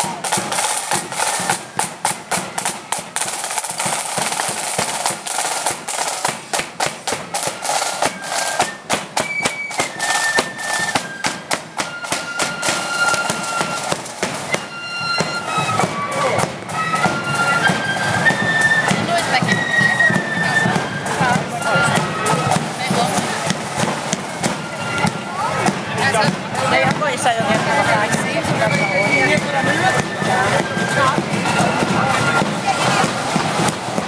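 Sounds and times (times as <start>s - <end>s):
flute melody: 0.0s - 34.0s
snare drums beating: 0.0s - 34.0s.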